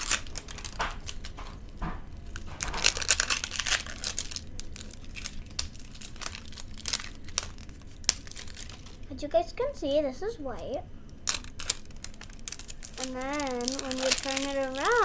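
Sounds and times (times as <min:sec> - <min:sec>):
plastic wrapping crinkling: 0:00.0 - 0:09.3, 0:11.0 - 0:15.0.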